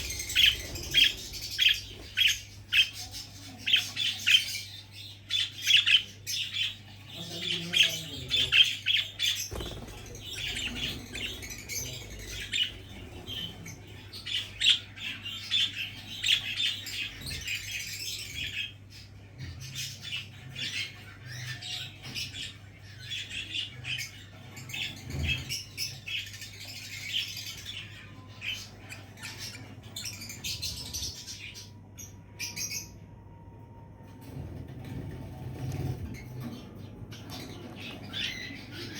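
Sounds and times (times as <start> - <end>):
budgerigars chirping: 0.0 - 33.0, 35.1 - 38.9.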